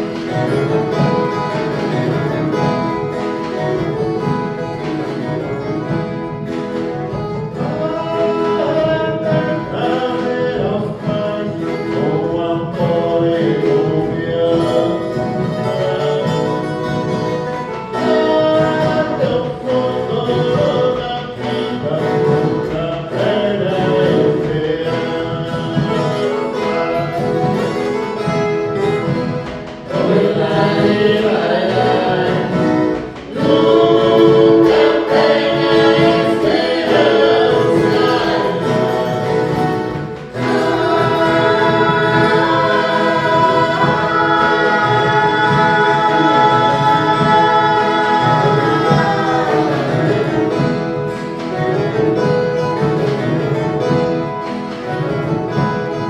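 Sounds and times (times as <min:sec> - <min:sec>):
choir singing: 0:00.0 - 0:27.5, 0:29.2 - 0:52.3
guitar ensemble: 0:00.0 - 0:56.0.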